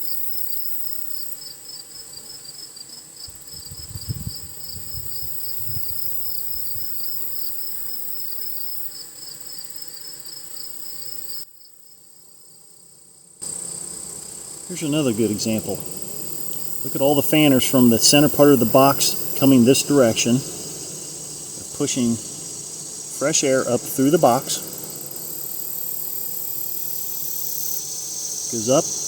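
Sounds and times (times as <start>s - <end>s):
honeybees buzzing: 0.0s - 11.4s, 12.0s - 29.0s
insects chirping: 0.0s - 29.0s.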